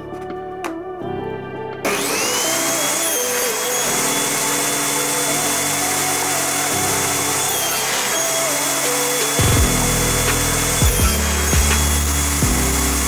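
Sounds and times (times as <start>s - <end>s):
table saw cutting wood: 1.8s - 13.0s.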